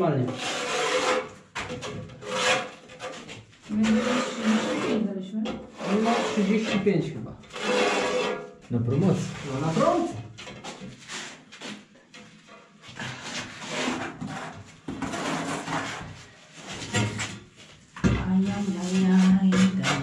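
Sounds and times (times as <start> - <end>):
tile scraping and rubbing: 0.2 - 5.1, 5.7 - 6.9, 7.5 - 12.3, 12.9 - 20.0.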